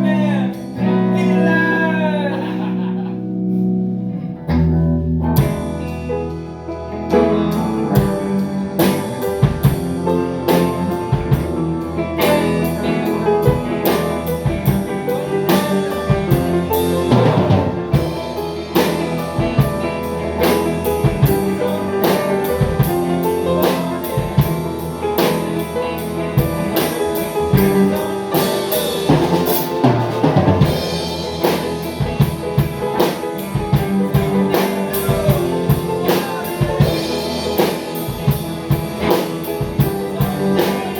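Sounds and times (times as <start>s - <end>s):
guitar chords: 0.0s - 40.9s
drum kit beat with snare: 4.6s - 6.5s, 7.1s - 40.9s.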